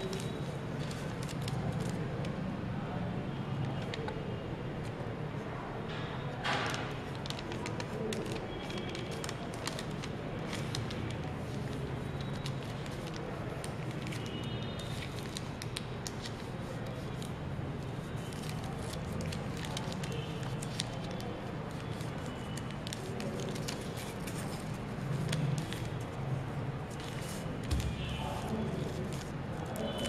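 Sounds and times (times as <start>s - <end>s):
paper rustling and crackling: 0.0s - 2.4s, 6.5s - 30.0s.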